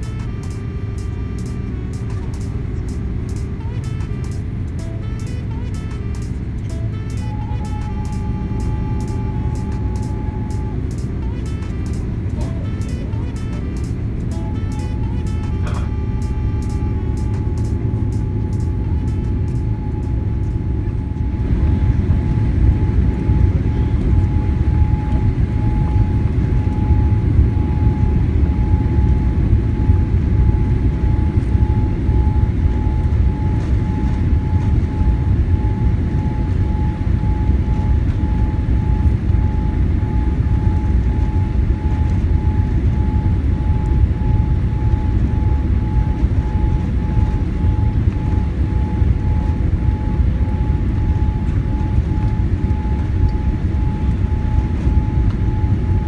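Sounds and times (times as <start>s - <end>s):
airplane cabin engine rumble: 0.0s - 56.0s
constant high hum: 0.0s - 56.0s.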